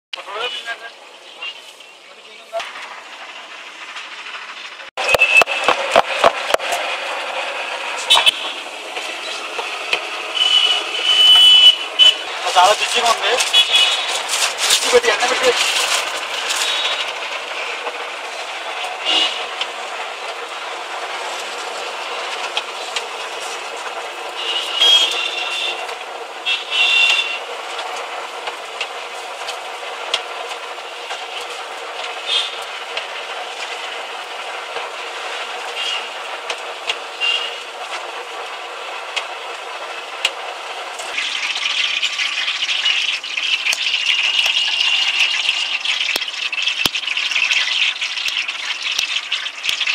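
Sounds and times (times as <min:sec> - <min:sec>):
oil sizzling while deep-frying: 0:00.2 - 0:49.9.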